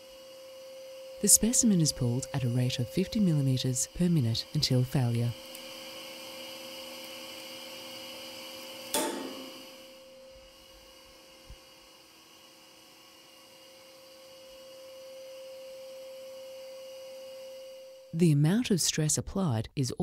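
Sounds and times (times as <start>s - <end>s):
steady high hum: 0.0s - 18.3s.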